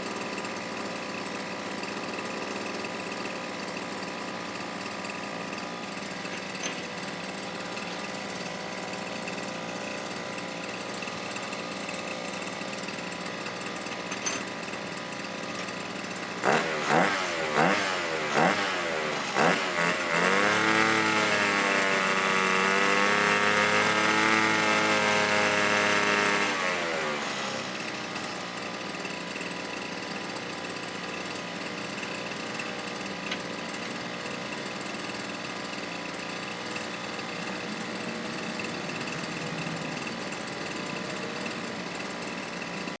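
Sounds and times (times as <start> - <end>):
brush cutter engine revving: 0.0 - 43.0.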